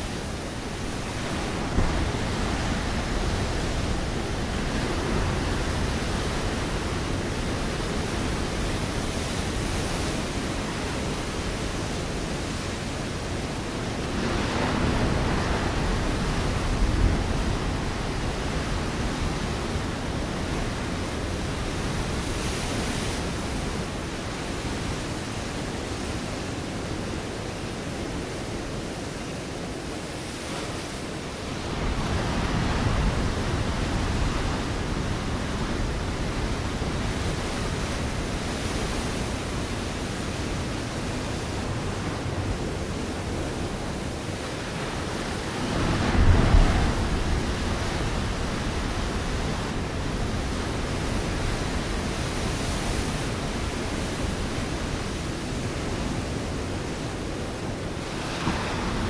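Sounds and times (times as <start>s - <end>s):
ocean waves crashing on rocks: 0.0s - 59.0s.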